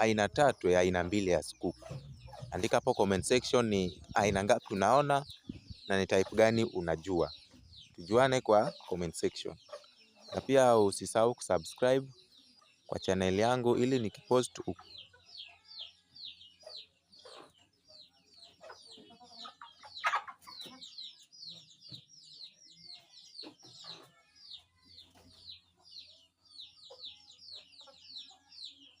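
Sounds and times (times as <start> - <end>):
chickens clucking: 0.0 - 29.0
chicks peeping: 0.0 - 29.0.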